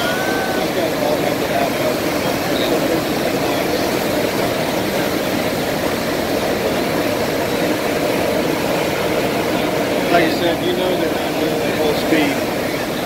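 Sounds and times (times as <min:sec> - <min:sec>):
ship wake water rushing: 0:00.0 - 0:13.0.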